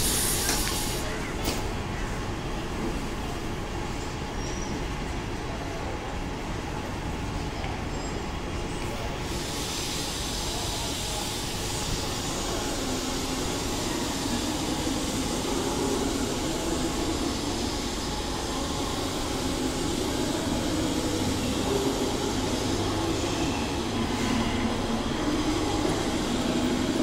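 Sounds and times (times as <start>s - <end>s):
electric trains rumbling and humming: 0.0s - 27.0s.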